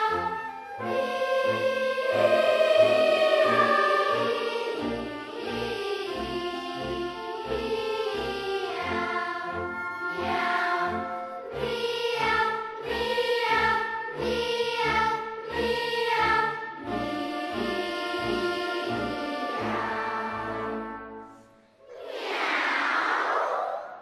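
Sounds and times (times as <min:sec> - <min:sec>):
choir singing held chords: 0:00.0 - 0:24.0.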